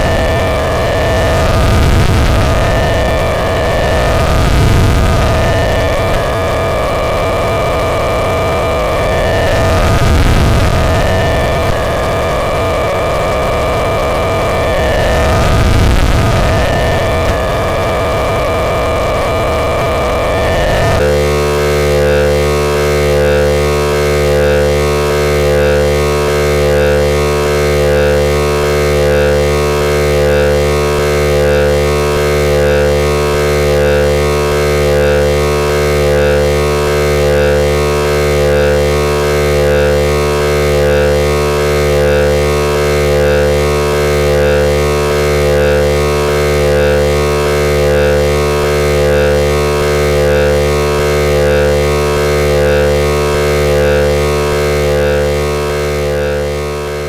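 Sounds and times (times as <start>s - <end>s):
throbbing synthesizer drone: 0.0s - 57.0s.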